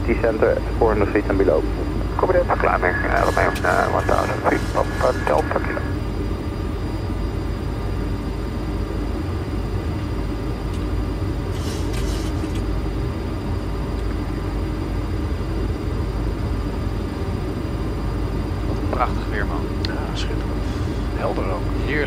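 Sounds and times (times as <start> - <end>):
faint steady whine: 0.0 - 22.0
low rumble of airflow and engines: 0.0 - 22.0.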